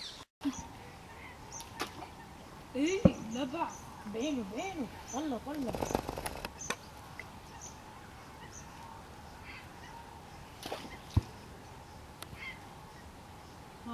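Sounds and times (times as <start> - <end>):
faint bird calls: 0.0 - 13.9
steady background hiss: 0.4 - 13.9.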